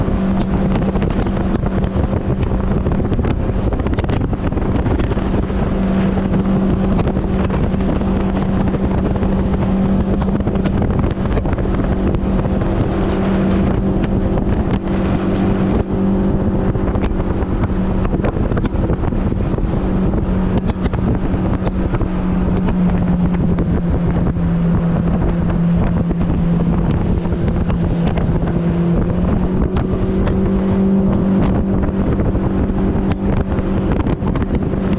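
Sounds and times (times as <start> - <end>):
outboard motor running: 0.0 - 34.9
wind buffeting microphone: 0.0 - 34.9.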